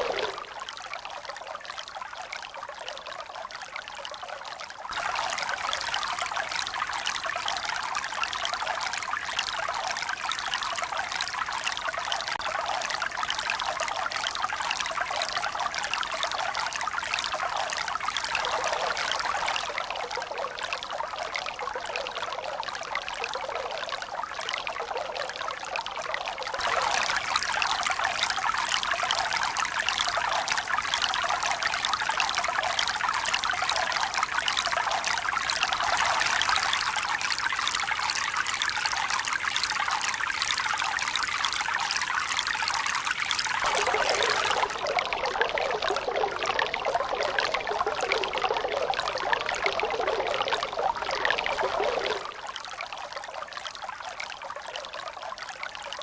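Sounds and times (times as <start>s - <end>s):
running trickling water: 0.0s - 56.0s.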